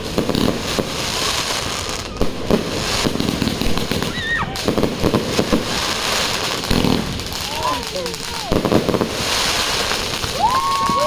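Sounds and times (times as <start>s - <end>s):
firework bangs: 0.0s - 11.0s
firework cake popping and crackling: 0.0s - 11.0s.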